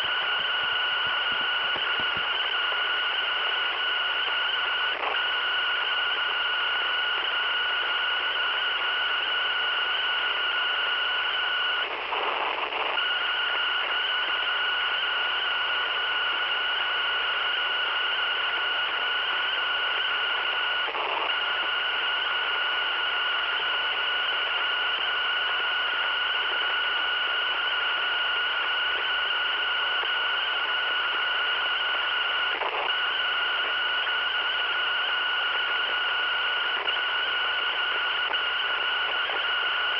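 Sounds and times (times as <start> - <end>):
radio hiss: 0.0 - 39.9.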